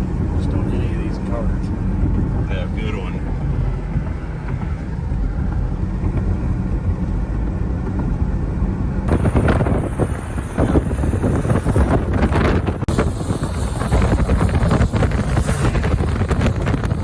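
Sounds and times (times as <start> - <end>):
low rumble: 0.0 - 17.0
wind buffeting microphone: 0.0 - 17.0.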